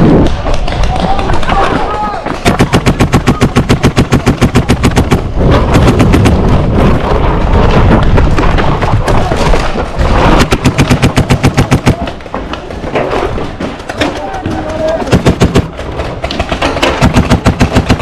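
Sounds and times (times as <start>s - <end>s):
paintball markers firing: 0.1s - 6.9s, 7.7s - 13.2s, 13.8s - 18.0s.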